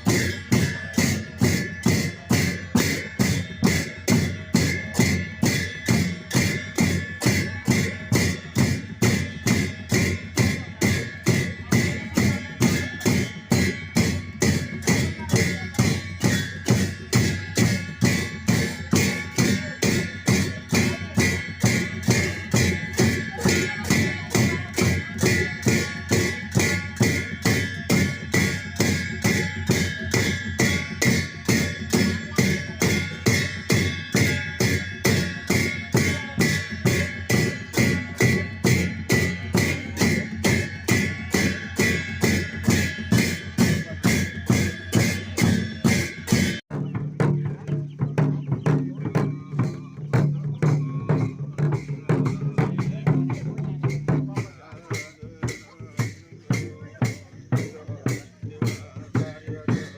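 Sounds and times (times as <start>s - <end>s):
cymbals ringing: 0.0s - 59.9s
drum beating: 0.0s - 59.9s.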